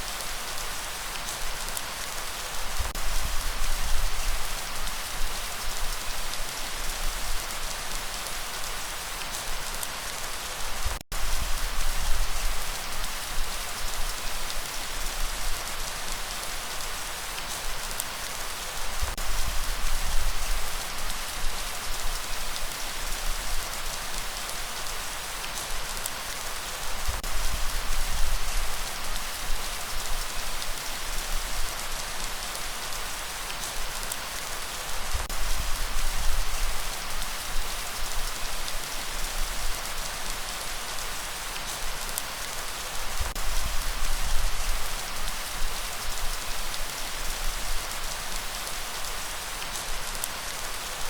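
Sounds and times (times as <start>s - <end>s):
steady rain hiss: 0.0s - 51.0s.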